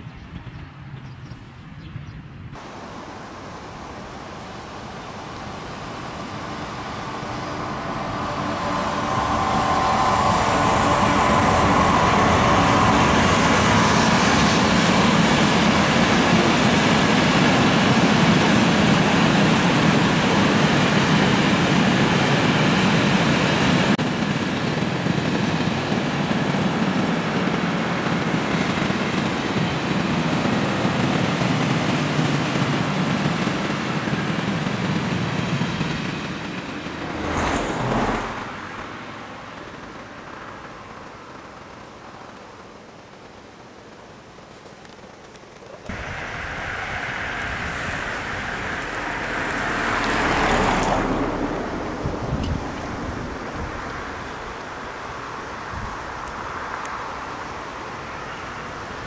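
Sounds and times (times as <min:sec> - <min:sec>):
electric locomotive whining: 0:02.6 - 0:59.0
wagon wheels rolling on rail: 0:03.6 - 0:59.0.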